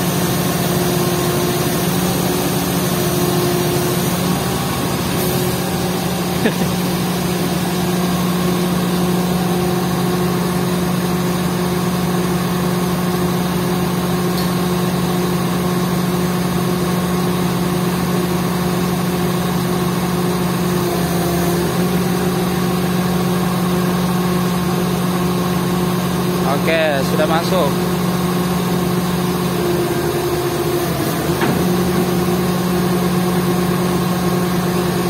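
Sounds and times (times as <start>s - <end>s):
crane diesel engine running: 0.0s - 35.0s.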